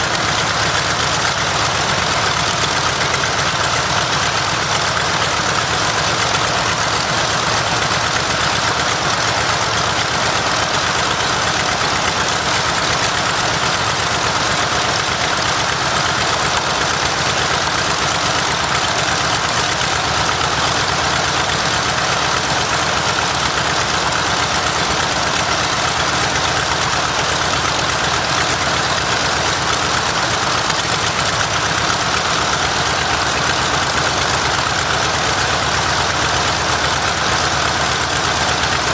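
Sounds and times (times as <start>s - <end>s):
radial aircraft engine running: 0.0s - 38.9s.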